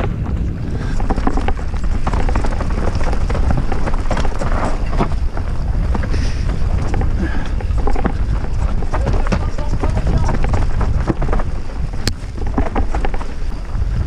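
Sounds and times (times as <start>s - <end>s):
bike clattering: 0.0s - 14.0s
tyres rumbling over dirt and rock: 0.0s - 14.0s.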